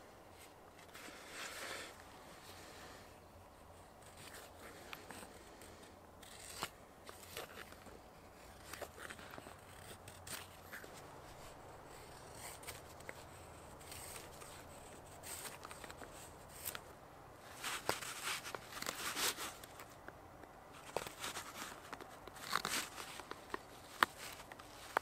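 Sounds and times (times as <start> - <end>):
drawknife shaving wood: 3.9 - 20.0, 20.8 - 25.0.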